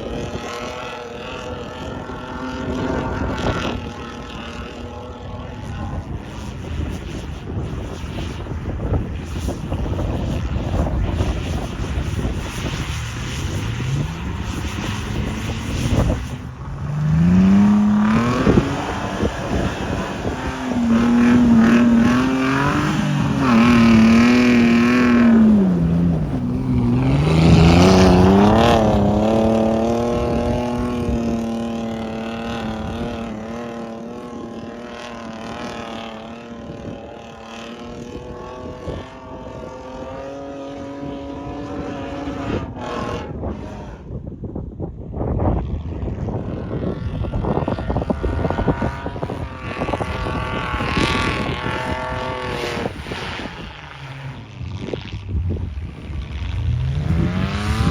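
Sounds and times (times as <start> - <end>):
off-road vehicle engine revving: 0.0 - 6.2, 9.8 - 44.2, 46.1 - 57.9.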